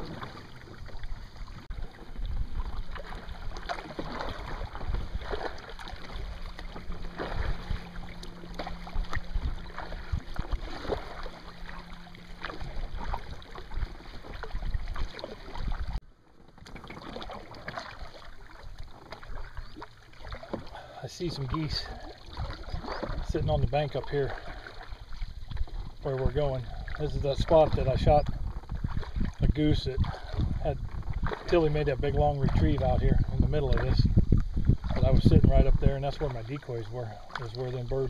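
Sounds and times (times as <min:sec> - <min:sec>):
water splashing and dripping: 0:00.0 - 0:16.0, 0:16.6 - 0:34.0
wind rumble on microphone: 0:00.0 - 0:16.0, 0:21.5 - 0:38.0
paddle blades dipping in water: 0:00.0 - 0:38.0.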